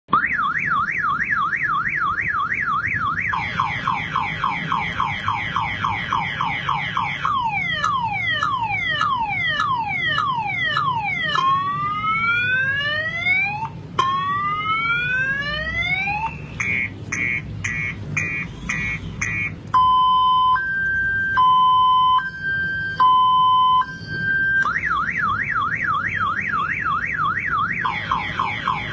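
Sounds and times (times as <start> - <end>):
car alarm siren: 0.1 - 28.9.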